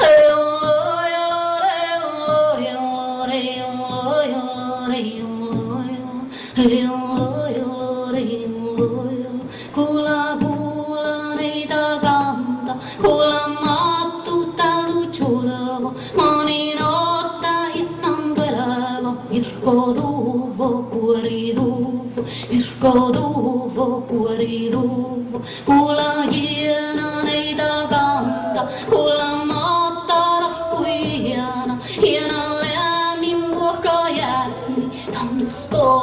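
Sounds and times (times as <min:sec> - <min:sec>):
voices singing a melodic song: 0:00.0 - 0:36.0.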